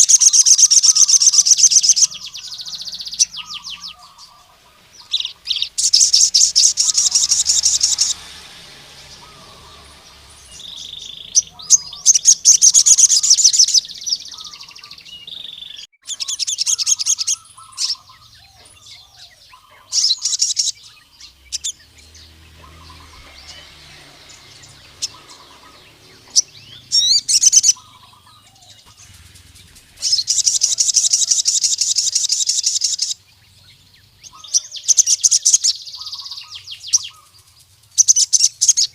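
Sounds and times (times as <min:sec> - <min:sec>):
sunbird rapid buzzy song: 0:00.0 - 0:38.9.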